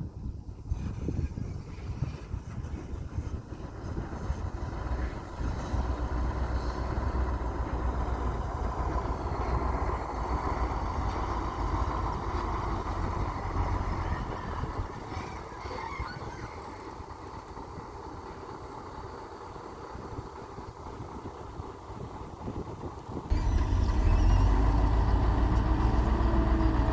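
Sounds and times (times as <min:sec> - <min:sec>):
construction vehicle engine rumbling: 0:02.8 - 0:22.2, 0:23.3 - 0:26.9.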